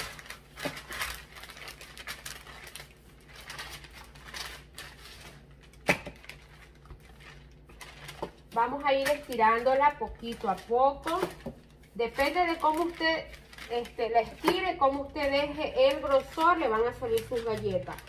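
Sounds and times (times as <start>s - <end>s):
parchment paper crinkling: 0.0s - 18.0s.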